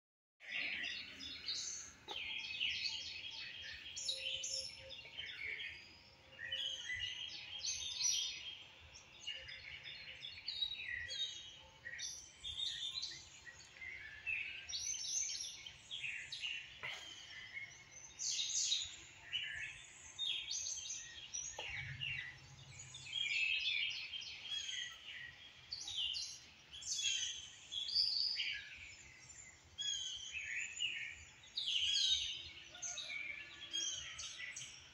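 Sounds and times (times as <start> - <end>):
songbirds chirping chorus: 0.4 - 34.9.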